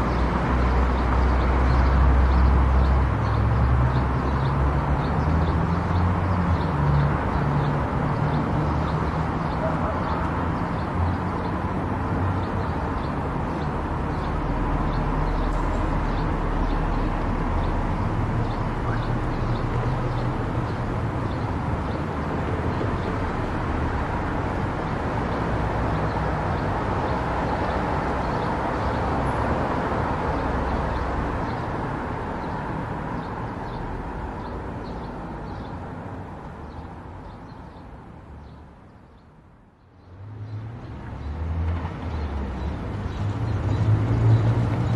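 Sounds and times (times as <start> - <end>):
car driving at highway speed: 0.0 - 37.2, 39.4 - 44.9.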